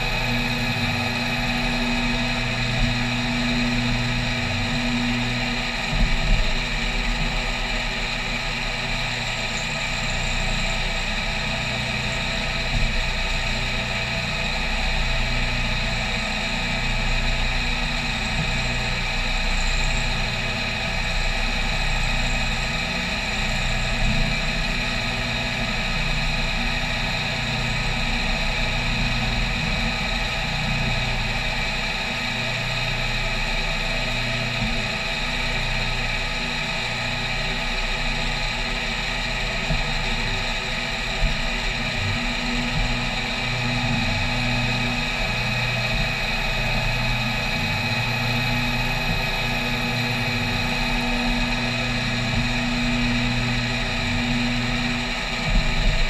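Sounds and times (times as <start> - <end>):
low machine hum: 0.0 - 56.0
milling machine cutting metal whine: 0.0 - 56.0.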